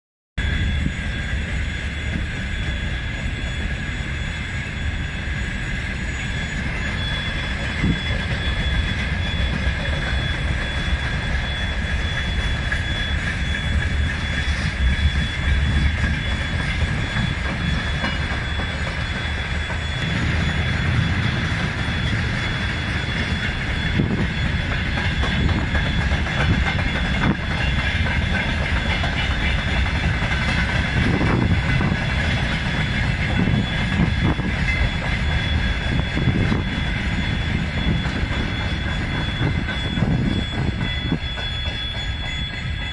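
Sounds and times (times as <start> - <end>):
steady high-pitched tone: 0.4 - 42.9
train wheels rumbling on rails: 0.4 - 42.9
wheels clickety-clack: 6.6 - 42.9.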